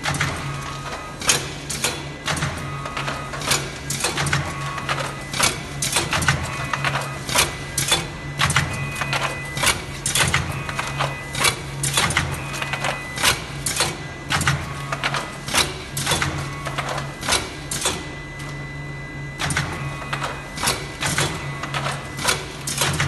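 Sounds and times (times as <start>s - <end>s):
machine mechanical clacks: 0.0s - 23.0s.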